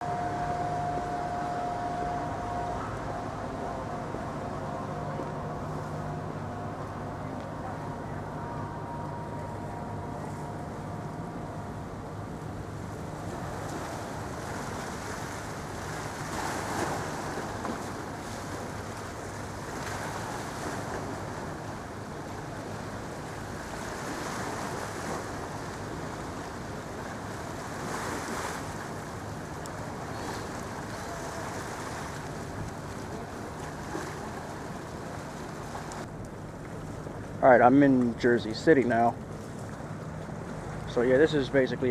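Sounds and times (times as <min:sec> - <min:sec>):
faint steady whine: 0:00.0 - 0:41.9
low even hum: 0:00.0 - 0:41.9.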